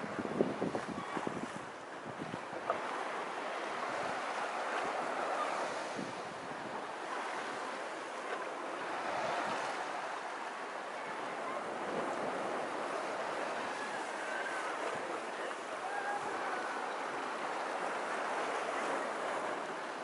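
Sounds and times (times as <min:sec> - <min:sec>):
waves breaking on a sandy beach: 0:00.0 - 0:20.0.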